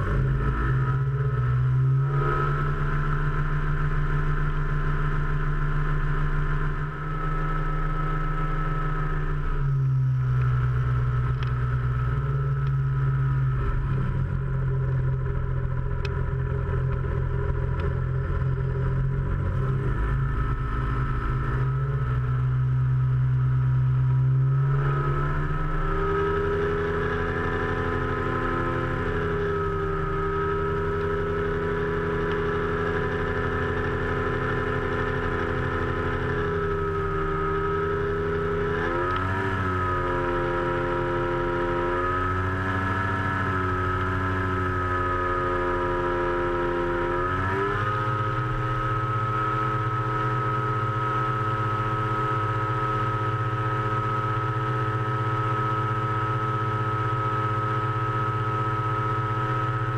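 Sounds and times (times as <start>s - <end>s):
engine and propeller droning: 0.0s - 59.9s.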